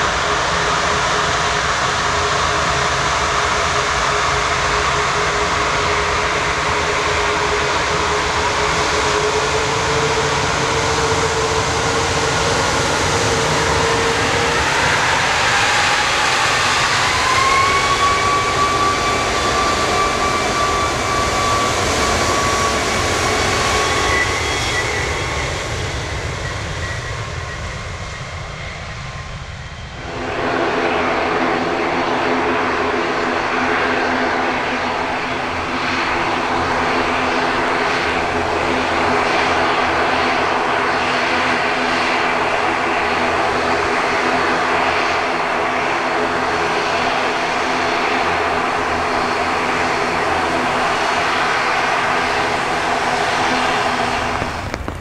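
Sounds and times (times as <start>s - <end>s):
jet airliner taxiing: 0.0s - 55.0s
jet takeoff rumble: 0.0s - 55.0s.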